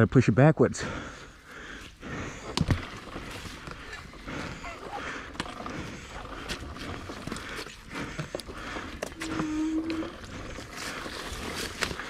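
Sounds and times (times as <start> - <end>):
footsteps on dirt trail: 0.8 - 12.0.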